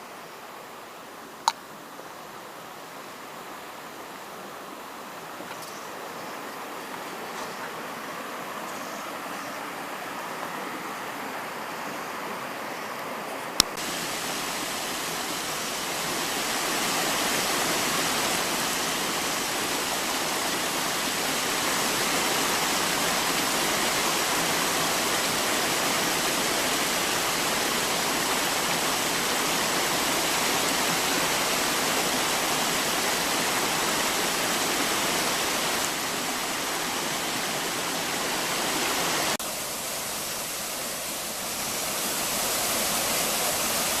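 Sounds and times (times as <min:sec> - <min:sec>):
waterfall rushing: 0:02.4 - 0:44.0.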